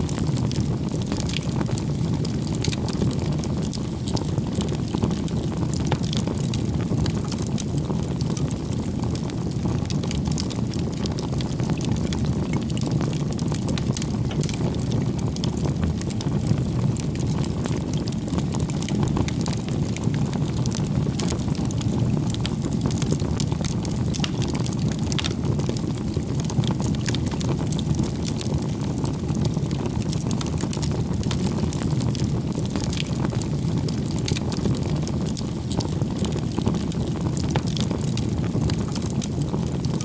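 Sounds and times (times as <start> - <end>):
bonfire rumbling: 0.0 - 40.0
burning wood crackling and popping: 0.0 - 40.0.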